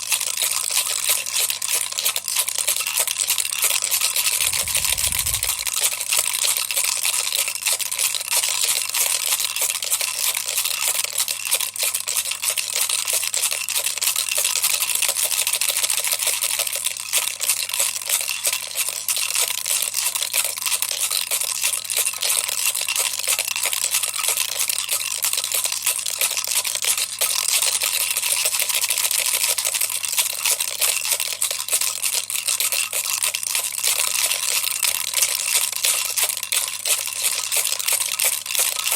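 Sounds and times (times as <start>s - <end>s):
toy rattle shaking: 0.0s - 13.8s, 17.1s - 38.9s.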